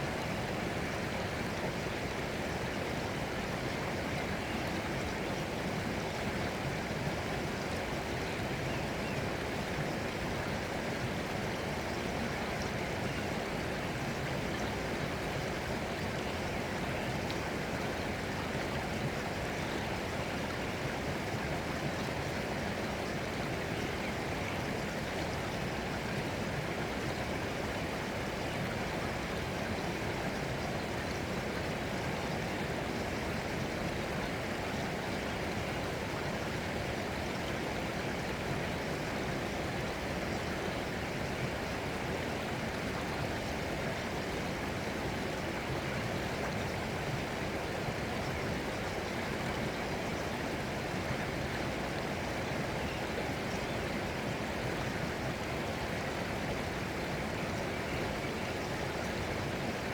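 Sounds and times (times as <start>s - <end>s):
water flowing steadily: 0.0s - 59.9s.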